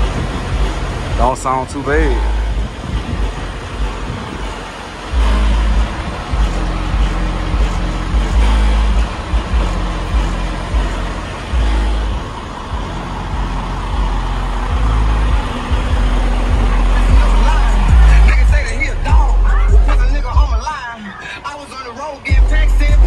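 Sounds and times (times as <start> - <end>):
music with deep bass from subwoofers: 0.0 - 23.0.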